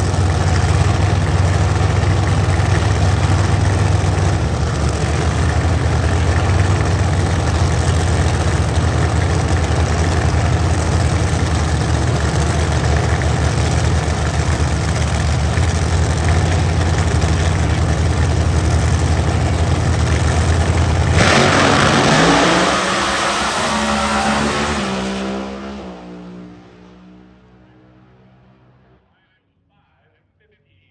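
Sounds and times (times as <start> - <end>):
drag racing car engine rumbling: 0.0 - 29.0.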